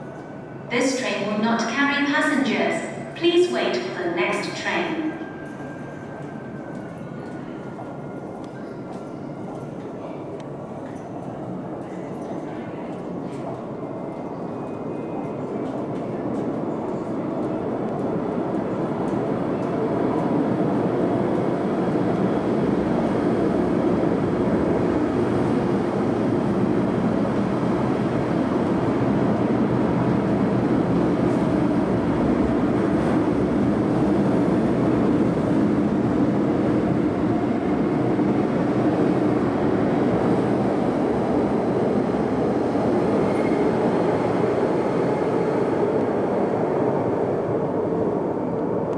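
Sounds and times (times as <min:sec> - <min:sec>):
metro train wheels rumbling: 0:00.0 - 0:48.9.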